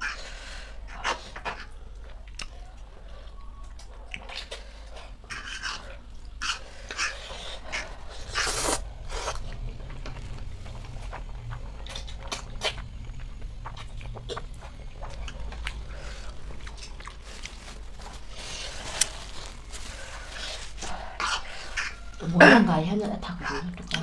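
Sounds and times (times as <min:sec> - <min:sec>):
slurping and chewing noodles: 0:00.8 - 0:22.2.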